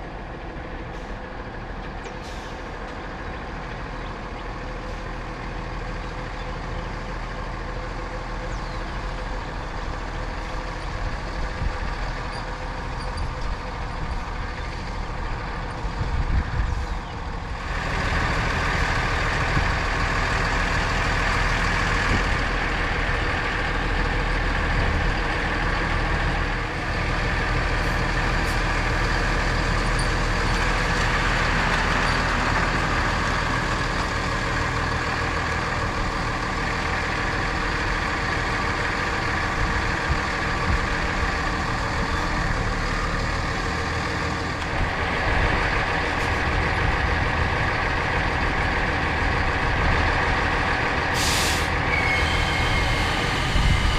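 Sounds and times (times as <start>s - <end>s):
motorhome engine running: 0.0s - 53.9s.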